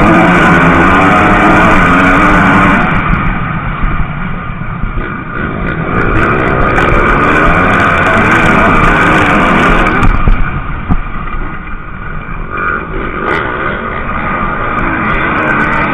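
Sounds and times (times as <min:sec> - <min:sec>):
motocross bikes revving: 0:00.0 - 0:15.9.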